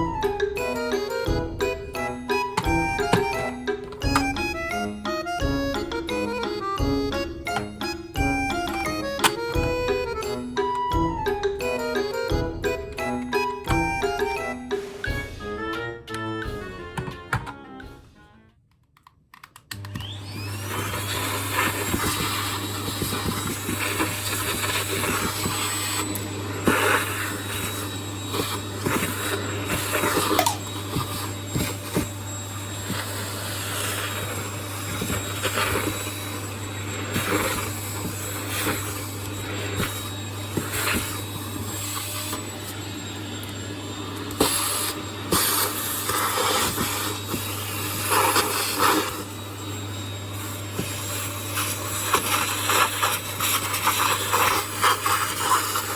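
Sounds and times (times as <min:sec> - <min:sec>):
vacuum cleaner motor whine: 0:00.0 - 0:18.6, 0:19.6 - 0:55.9.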